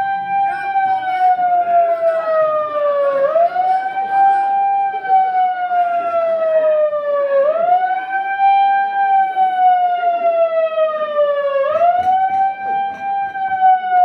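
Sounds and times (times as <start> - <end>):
wailing siren: 0.0 - 14.0.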